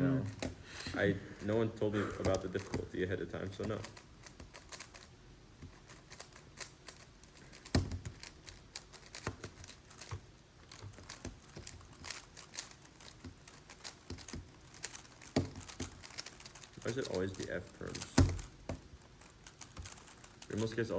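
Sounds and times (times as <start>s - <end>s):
plastic puzzle cube clicking: 1.5s - 5.1s, 5.7s - 20.9s.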